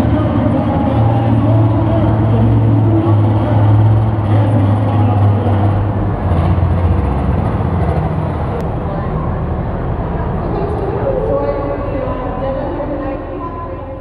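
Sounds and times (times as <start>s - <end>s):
tractor engine running loudly: 0.0s - 14.0s.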